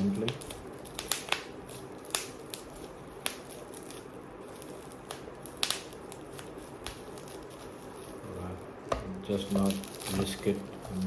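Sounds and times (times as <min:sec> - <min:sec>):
plastic packaging crackling: 0:00.0 - 0:11.0
quiet handling of packaging: 0:00.0 - 0:11.0.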